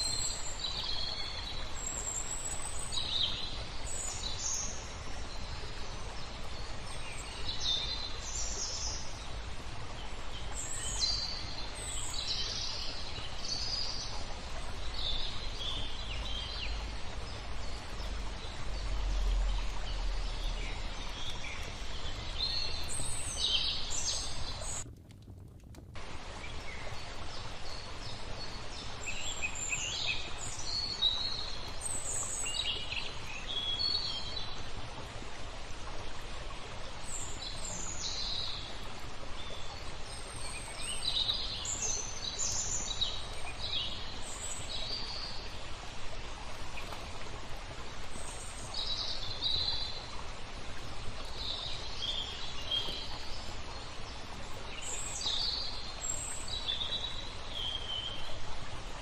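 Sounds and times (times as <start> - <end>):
songbirds chirping: 0.0 - 24.9, 26.0 - 59.0
flowing water: 0.0 - 59.0.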